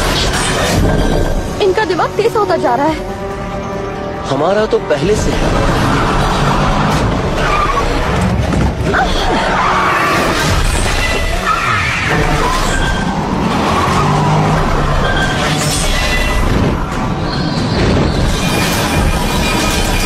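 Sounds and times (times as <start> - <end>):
dramatic music: 0.0 - 20.0
tyres skidding: 0.4 - 20.0.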